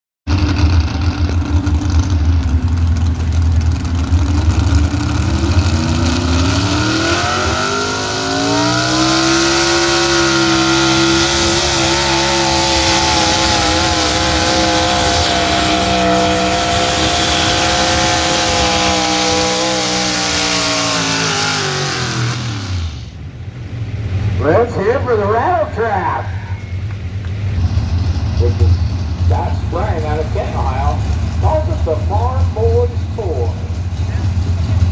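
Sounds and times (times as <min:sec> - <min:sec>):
truck engine at full throttle: 0:00.3 - 0:34.9.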